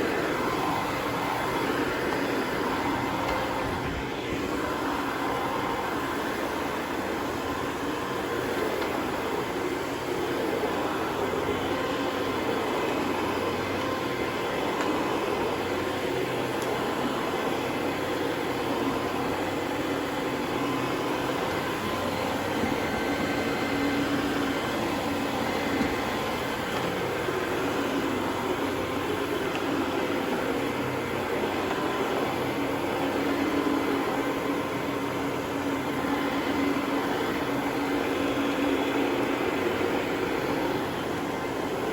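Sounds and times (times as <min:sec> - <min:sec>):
carpet-cleaning machine humming: 0:00.0 - 0:41.9.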